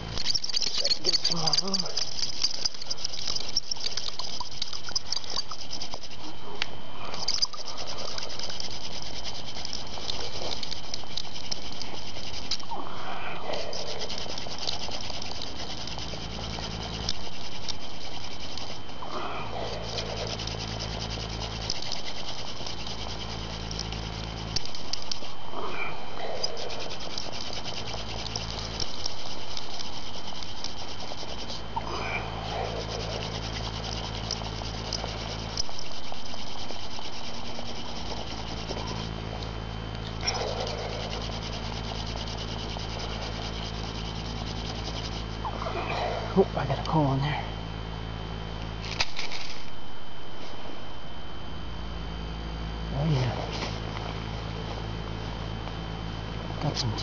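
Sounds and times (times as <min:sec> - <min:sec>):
hand drill spindle rubbing hiss: 0:00.0 - 0:06.4, 0:07.0 - 0:47.2.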